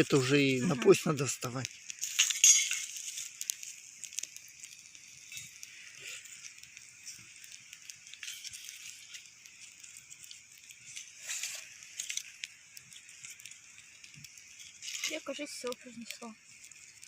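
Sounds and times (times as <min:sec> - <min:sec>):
campfire crackling: 0:00.0 - 0:17.0
soft hiss: 0:00.0 - 0:17.0.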